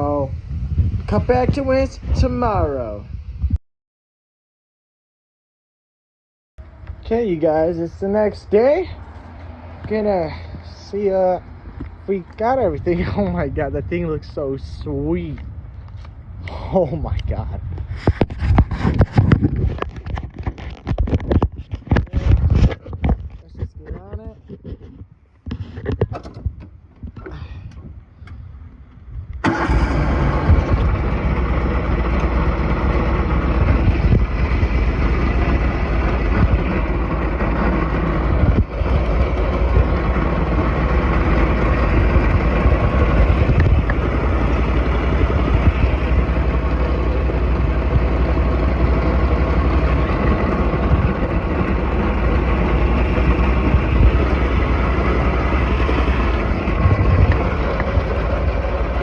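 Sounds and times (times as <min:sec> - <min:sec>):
riding lawnmower engine: 0:06.6 - 0:25.0, 0:29.4 - 0:59.0.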